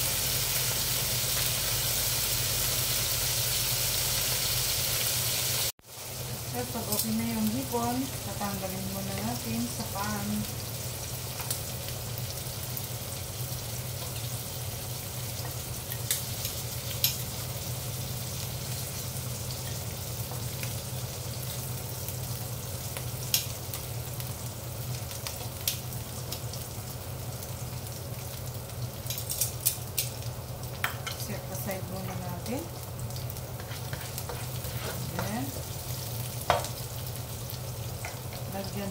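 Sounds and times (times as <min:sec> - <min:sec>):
shrimp sizzling in hot oil: 0:00.0 - 0:38.9.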